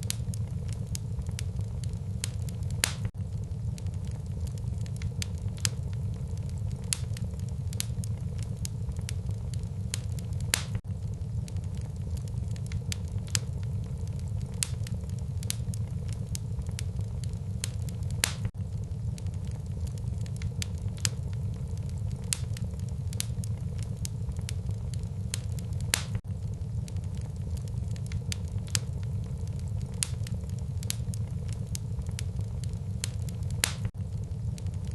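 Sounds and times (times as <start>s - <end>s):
wood fire crackling and roaring: 0.0s - 34.9s.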